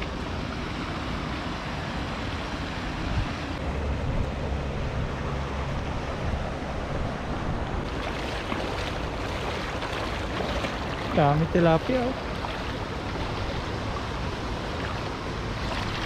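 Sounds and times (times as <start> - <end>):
wind buffeting microphone: 3.0 - 16.0.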